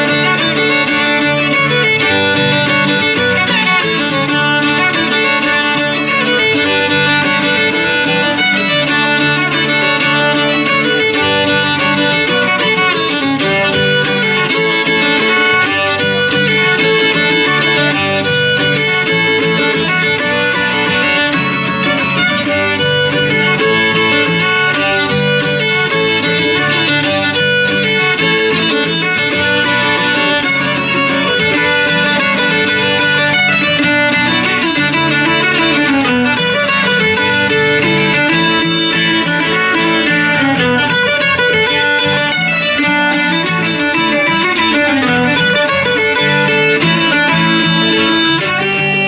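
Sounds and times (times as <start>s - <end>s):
acoustic guitars: 0.0s - 49.0s
fiddle playing: 0.0s - 49.0s.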